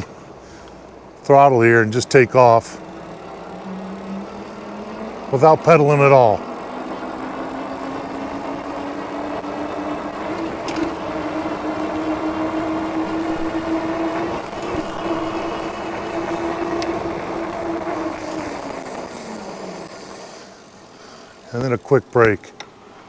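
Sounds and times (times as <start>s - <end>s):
electric motor whining: 0.0s - 23.0s
tyre noise: 0.0s - 23.0s.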